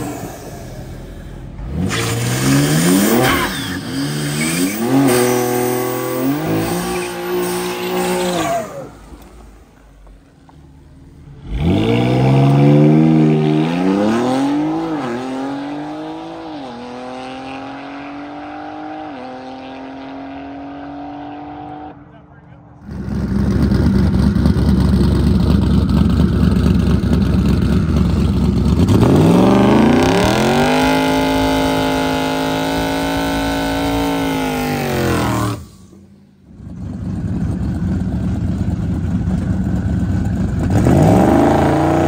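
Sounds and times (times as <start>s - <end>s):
drag race cars accelerating: 0.0s - 9.9s, 11.4s - 39.4s, 40.2s - 42.0s.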